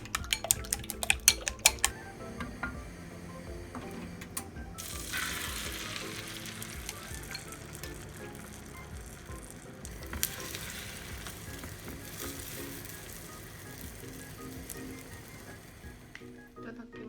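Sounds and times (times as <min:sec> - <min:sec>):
utensil clacking on pan: 0:00.0 - 0:16.2
food sizzling in a frying pan: 0:00.2 - 0:16.6.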